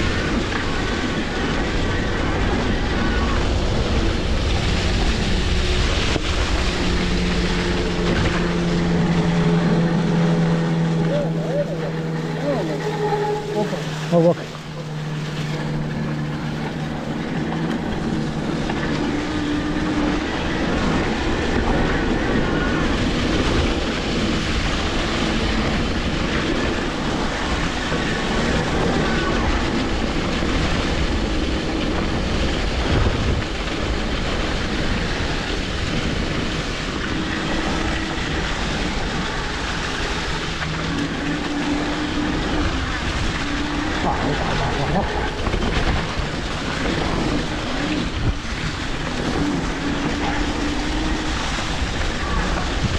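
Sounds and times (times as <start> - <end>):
bike tyres rumbling on trail: 0.0 - 52.9
wind noise: 0.0 - 52.9.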